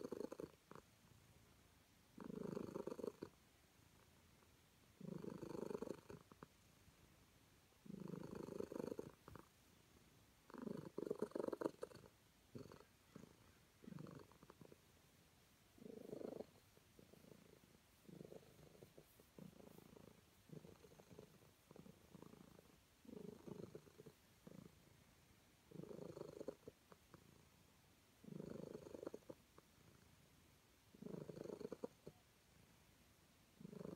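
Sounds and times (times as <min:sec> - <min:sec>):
cat purring softly: 0:00.0 - 0:33.9.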